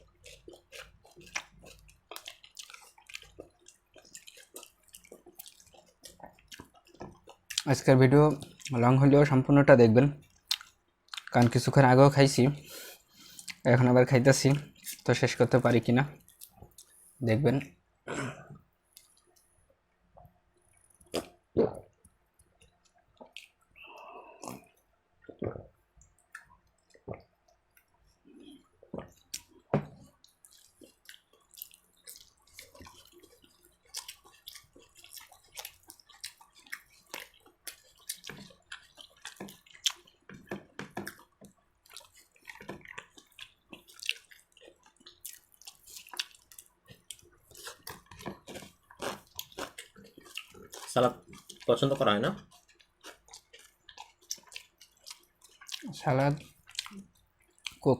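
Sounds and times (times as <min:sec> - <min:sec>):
wet eating clicks and chewing: 0:00.0 - 0:09.3, 0:10.2 - 0:12.6, 0:13.2 - 0:17.8, 0:18.9 - 0:57.9.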